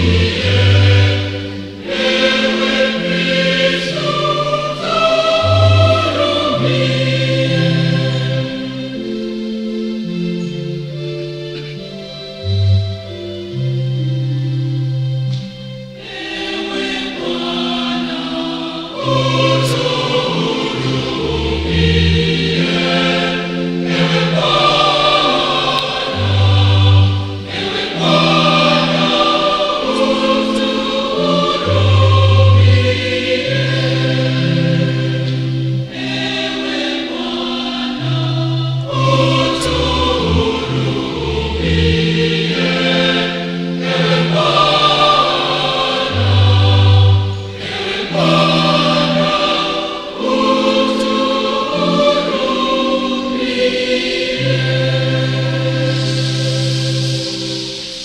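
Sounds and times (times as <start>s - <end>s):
church choir singing: 0.0s - 58.0s.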